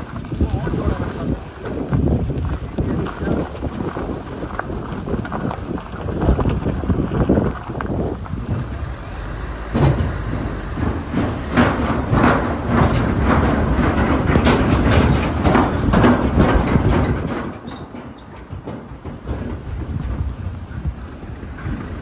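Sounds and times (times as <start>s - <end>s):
knocks and rattles of bridge joints: 0.0s - 22.0s
tyres rumbling over bridge deck: 0.0s - 22.0s.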